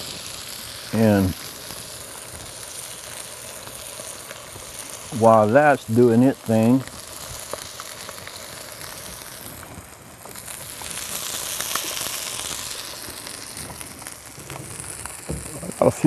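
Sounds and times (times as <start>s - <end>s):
chicken sizzling on a griddle: 0.0s - 16.0s.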